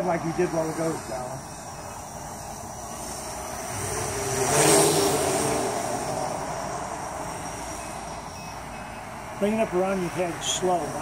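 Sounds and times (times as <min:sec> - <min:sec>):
quadcopter propellers buzzing: 0:00.0 - 0:11.0.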